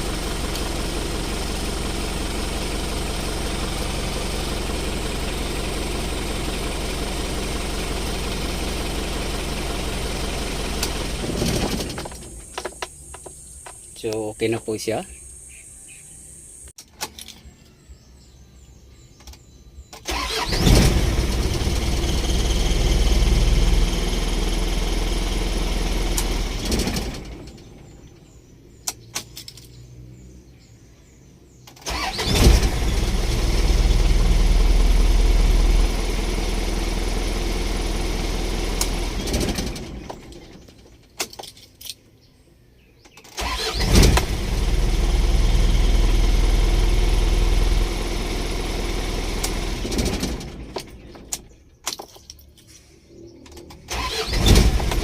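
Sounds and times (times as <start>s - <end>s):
truck engine starting and running: 0.0s - 17.7s, 19.1s - 42.3s, 42.9s - 55.0s.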